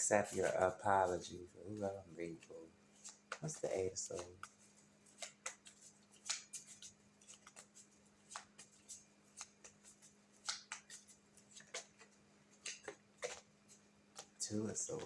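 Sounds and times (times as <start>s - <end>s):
faint steady hum: 0.0s - 15.0s
cards being shuffled: 0.2s - 15.0s.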